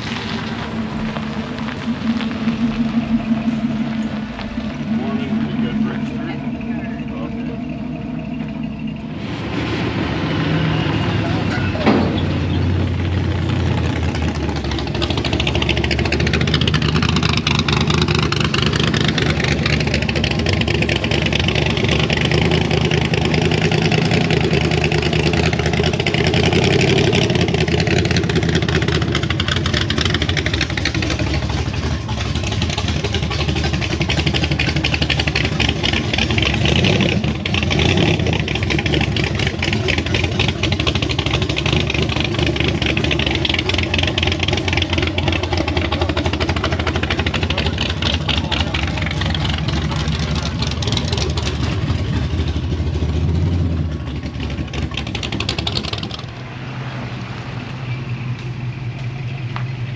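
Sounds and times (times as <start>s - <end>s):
pickup truck engine revving: 0.0s - 59.9s.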